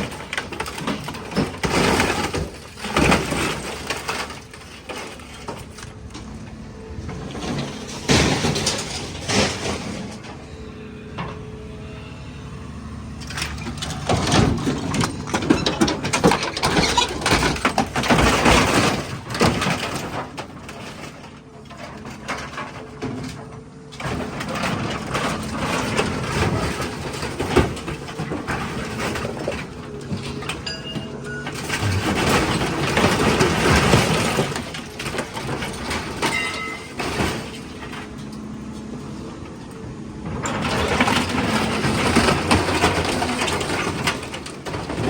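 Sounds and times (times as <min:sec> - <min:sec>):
metal crunching and clanking: 0:00.0 - 0:11.6, 0:13.1 - 0:45.0
excavator hum: 0:00.0 - 0:45.0.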